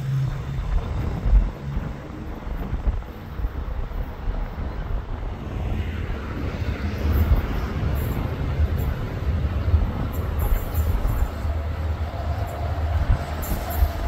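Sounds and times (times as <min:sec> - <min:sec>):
diesel locomotive rumble: 0:00.0 - 0:14.0
wind gusting on microphone: 0:00.0 - 0:14.0.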